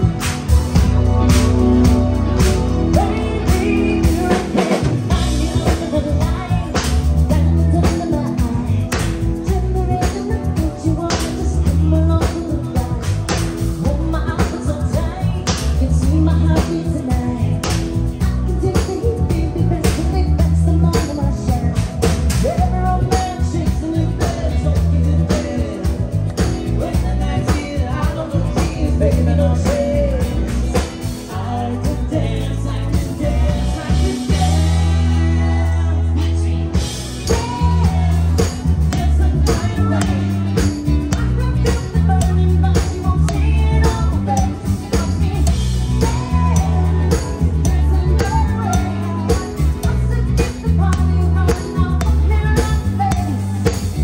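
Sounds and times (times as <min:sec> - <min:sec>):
drum kit beat: 0:00.0 - 0:54.0
electric bass: 0:00.0 - 0:54.0
guitar: 0:00.0 - 0:54.0
woman singing: 0:02.4 - 0:54.0.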